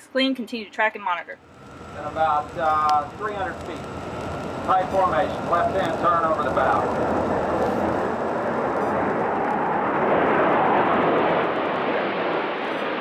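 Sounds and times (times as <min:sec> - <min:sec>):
jet planes roaring past: 0:00.0 - 0:13.0.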